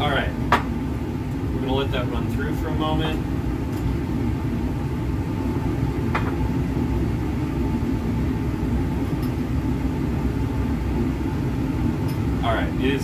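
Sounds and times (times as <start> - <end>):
fume hood ventilation rumble: 0.0 - 13.0.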